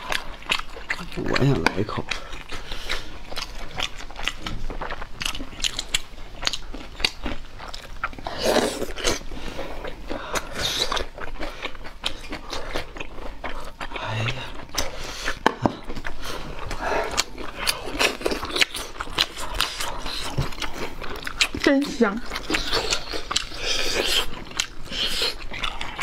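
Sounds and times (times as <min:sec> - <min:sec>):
biting and chewing meat: 0:00.0 - 0:26.0.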